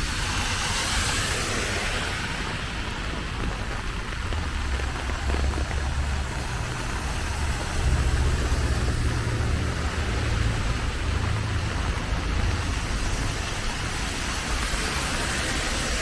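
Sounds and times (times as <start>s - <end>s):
rain hiss: 0.0s - 16.0s
road traffic rumble: 0.0s - 16.0s.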